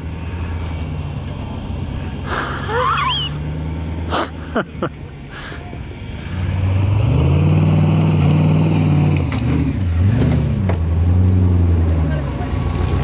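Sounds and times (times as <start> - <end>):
off-road vehicle engine revving: 0.0 - 4.6, 5.8 - 13.0.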